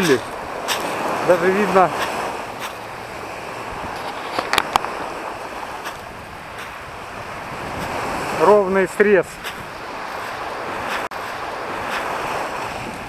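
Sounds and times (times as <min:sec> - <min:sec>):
sea surf: 0:00.0 - 0:13.0
wind on microphone: 0:00.0 - 0:13.0.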